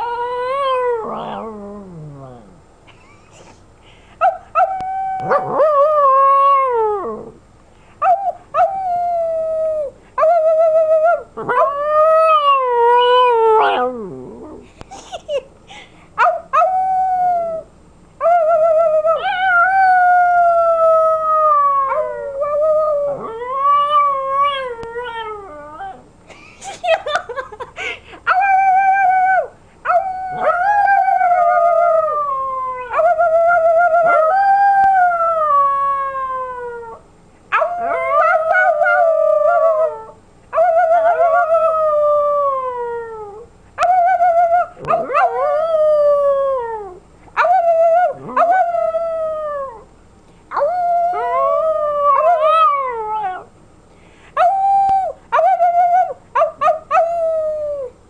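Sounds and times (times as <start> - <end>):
puppy howling: 0.0 - 2.5, 4.6 - 7.4, 8.0 - 14.6, 16.3 - 26.0, 28.3 - 49.9, 50.5 - 53.5, 54.4 - 57.9.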